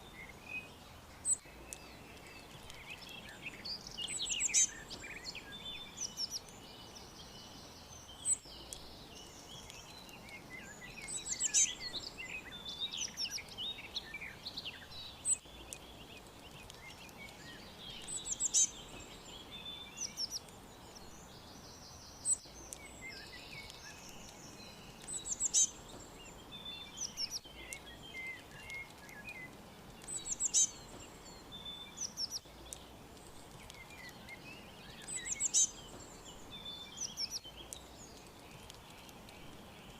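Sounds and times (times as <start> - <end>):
faint background hiss: 0.0 - 39.9
songbirds chirping and trilling: 0.0 - 39.9.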